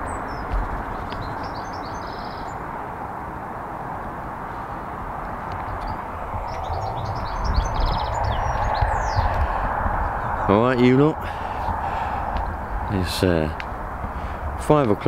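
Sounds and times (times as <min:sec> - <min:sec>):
songbirds twittering: 0:00.0 - 0:03.0, 0:03.6 - 0:15.0
rushing outdoor background noise: 0:00.0 - 0:15.0.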